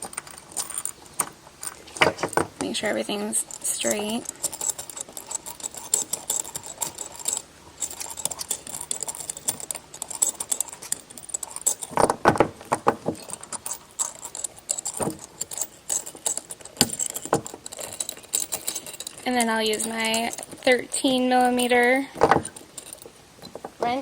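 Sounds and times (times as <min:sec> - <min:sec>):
small metal hardware rattling: 0:00.0 - 0:24.0.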